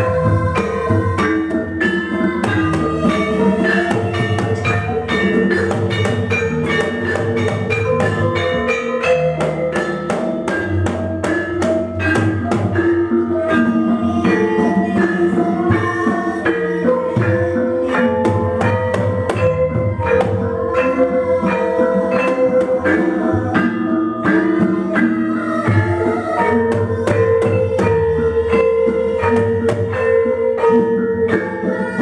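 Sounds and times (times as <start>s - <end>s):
gong-chimes and metallophones: 0.0s - 32.0s
hand drums: 0.0s - 32.0s.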